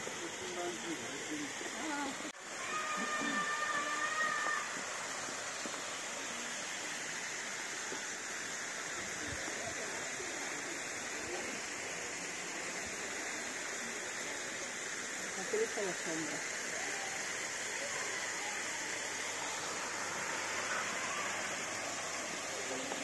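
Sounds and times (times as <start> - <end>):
waterfall pouring into pond: 0.0 - 23.0.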